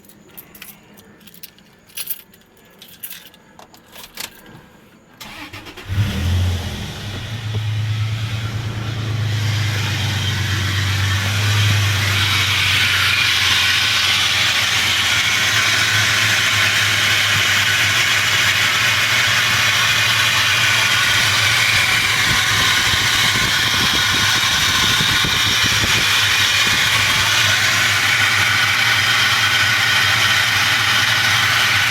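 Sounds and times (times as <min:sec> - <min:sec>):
car engine idling: 0:05.2 - 0:31.9.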